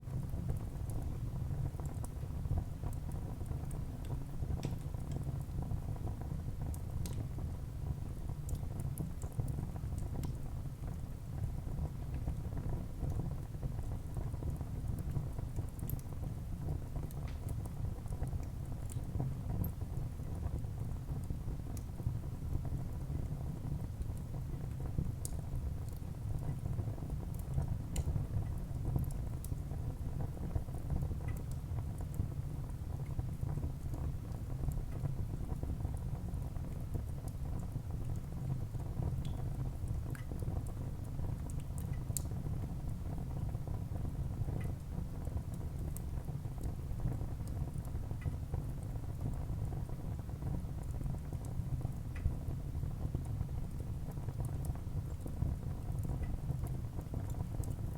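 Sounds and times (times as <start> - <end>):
wood fire burning: 0.2 - 57.9.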